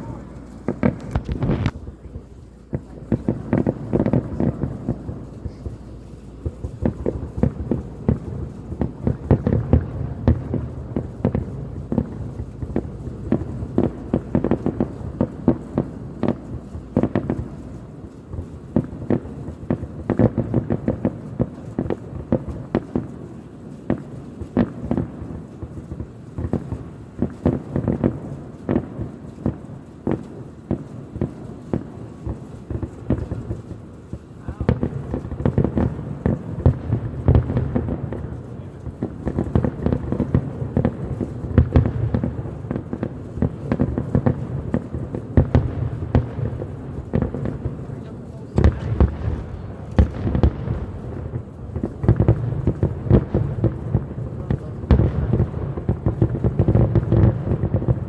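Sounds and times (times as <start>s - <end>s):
distant fireworks bangs and pops: 0.0s - 58.0s.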